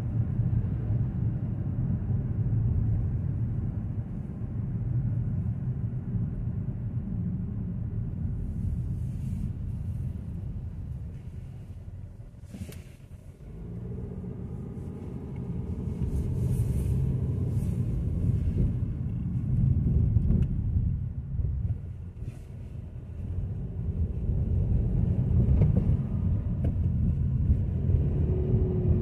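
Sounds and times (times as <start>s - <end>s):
road and engine rumble: 0.0s - 29.0s.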